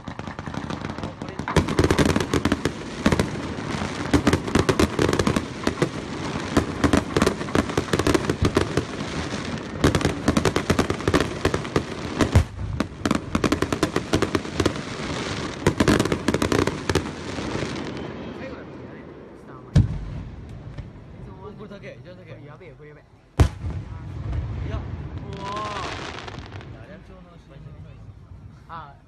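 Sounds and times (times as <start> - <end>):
loud firework bangs: 0.0 - 21.2, 23.4 - 26.8
fireworks crackling and banging: 0.0 - 28.5.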